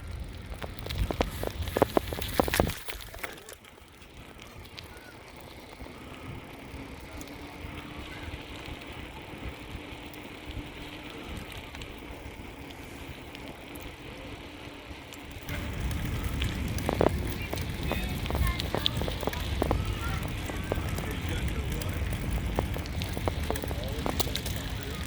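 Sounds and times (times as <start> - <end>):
bicycle tyre and road noise: 0.0 - 25.0
light ticks and rattles: 0.0 - 25.0.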